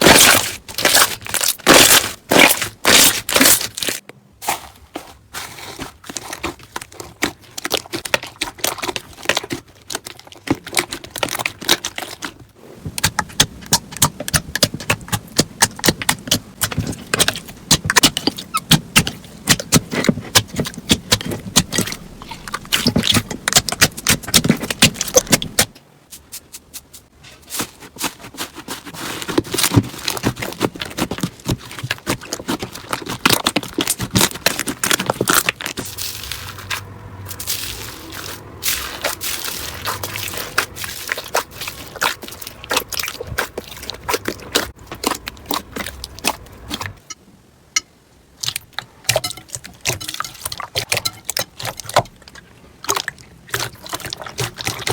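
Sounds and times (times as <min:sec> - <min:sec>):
crunchy slime crackling: 0:00.0 - 0:25.7, 0:27.5 - 0:47.0, 0:48.4 - 0:54.9.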